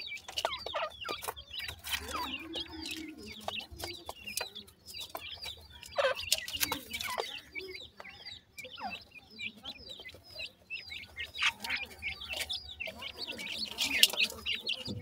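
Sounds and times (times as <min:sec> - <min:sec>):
bills pecking dry soil: 0:00.0 - 0:15.0
chicks peeping: 0:00.0 - 0:15.0
low soft bird calls: 0:00.0 - 0:15.0.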